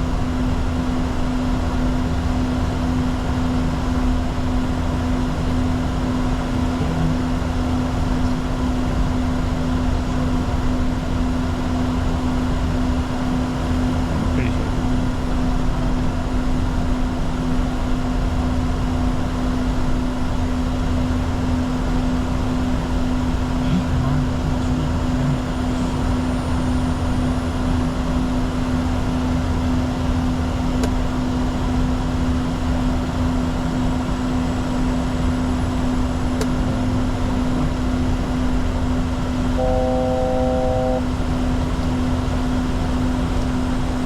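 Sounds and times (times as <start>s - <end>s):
constant hum: 0.0s - 44.0s
turbofan engines droning: 0.0s - 44.0s.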